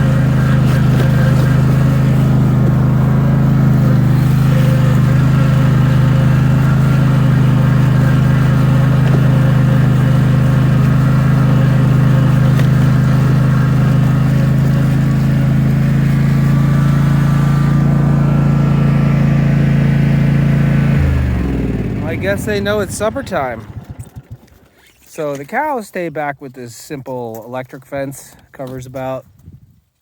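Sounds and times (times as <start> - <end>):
vehicle engine running: 0.0 - 25.1.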